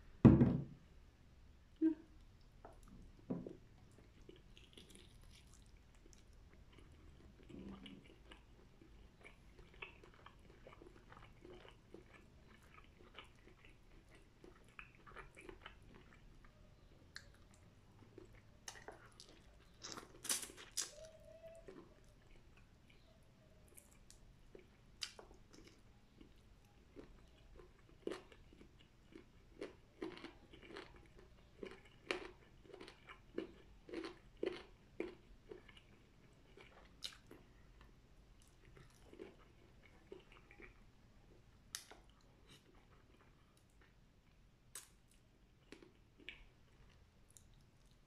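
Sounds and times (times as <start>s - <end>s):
person chewing food: 2.2s - 48.0s.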